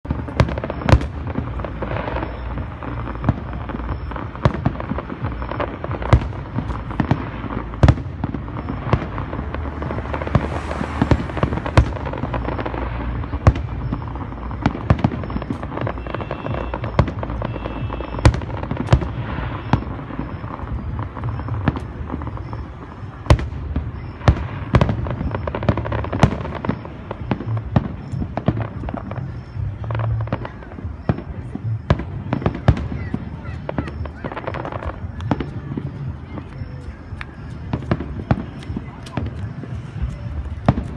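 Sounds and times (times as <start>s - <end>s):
sharp firework bangs: 0.0s - 36.1s
fireworks rumbling: 0.0s - 40.9s.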